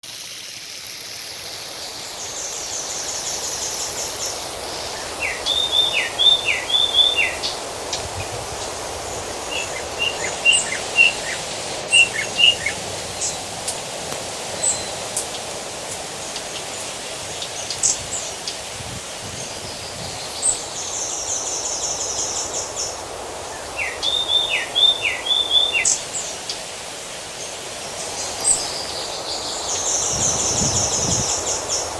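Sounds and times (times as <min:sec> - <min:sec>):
birds singing: 0:02.2 - 0:13.8, 0:14.5 - 0:15.6, 0:16.2 - 0:26.7, 0:27.4 - 0:31.9.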